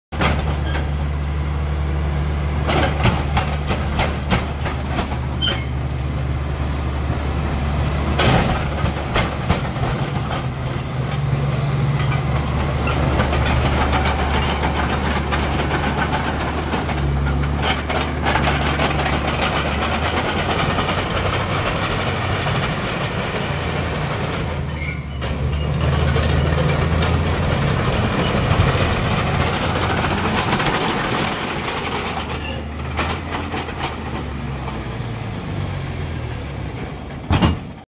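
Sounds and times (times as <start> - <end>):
bulldozer diesel engine running: 0.1 - 37.8
metallic clanks and knocks: 2.6 - 5.8, 8.1 - 35.0, 37.1 - 37.8.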